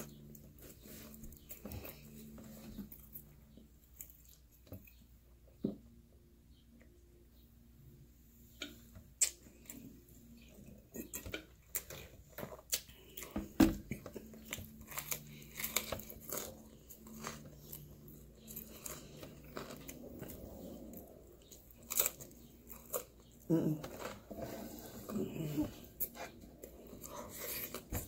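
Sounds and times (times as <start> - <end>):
crunchy chewing: 0.0 - 5.1, 9.2 - 28.0.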